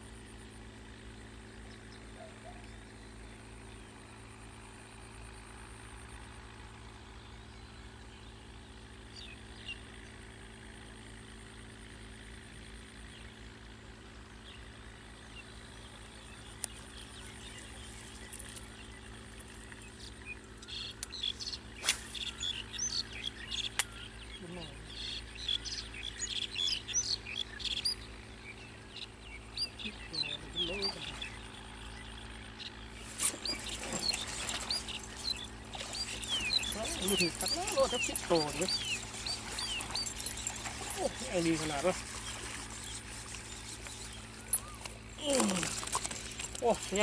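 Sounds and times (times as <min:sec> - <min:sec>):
small birds chirping: 0:00.0 - 0:47.0
steady low hum: 0:00.0 - 0:47.0.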